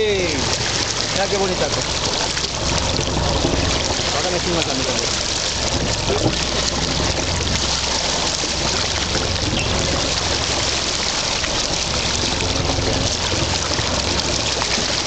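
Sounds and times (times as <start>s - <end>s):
boat engine hum: 0.0s - 15.0s
water splashing along boat: 0.0s - 15.0s.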